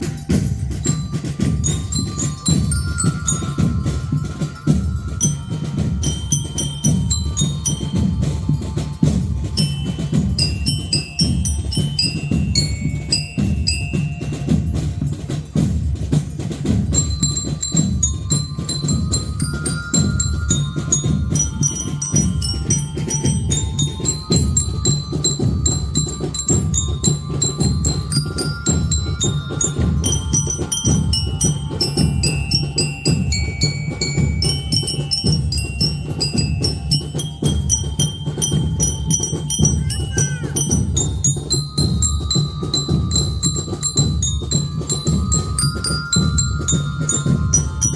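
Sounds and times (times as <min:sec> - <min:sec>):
bell lyre melody: 0:00.0 - 0:47.9
marching drum beat: 0:00.0 - 0:47.9.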